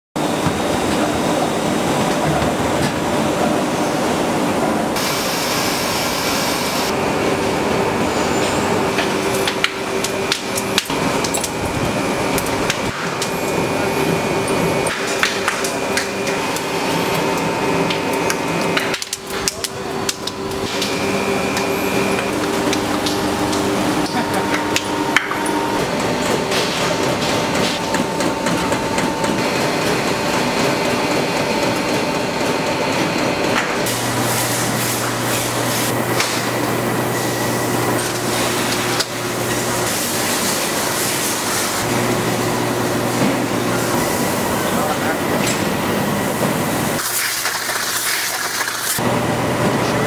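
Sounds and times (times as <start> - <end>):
factory machinery hum and whine: 0.2 - 50.0.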